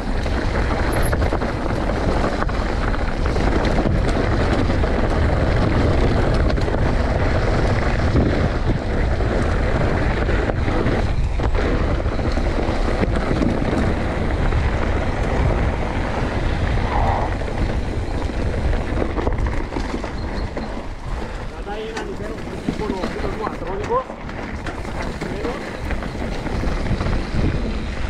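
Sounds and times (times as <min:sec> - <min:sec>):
wind rushing over microphone: 0:00.0 - 0:28.0
low rumble: 0:03.0 - 0:28.0.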